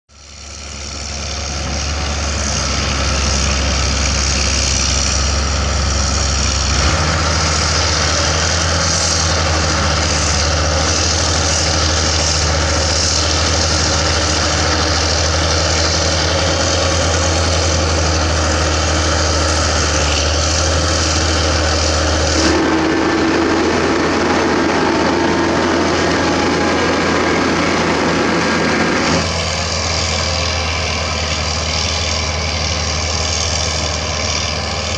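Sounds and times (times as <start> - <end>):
heavy diesel machines running: 0.1 - 34.9.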